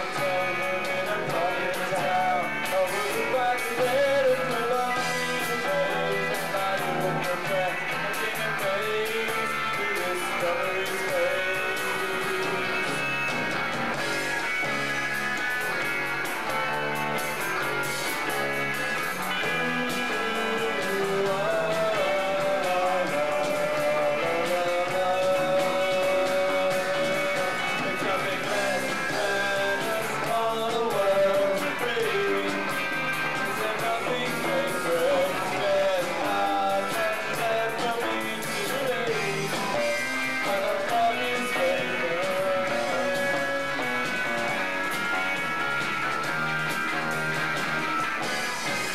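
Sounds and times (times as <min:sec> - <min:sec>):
drums and cymbals: 0:00.0 - 0:48.9
electric guitars: 0:00.0 - 0:48.9
live rock band playing: 0:00.0 - 0:48.9.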